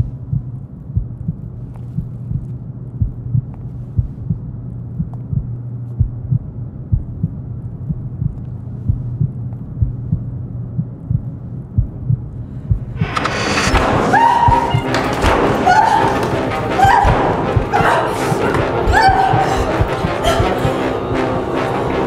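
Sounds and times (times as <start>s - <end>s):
heartbeat thumps: 0.0s - 20.9s
steady low hum: 0.0s - 22.0s.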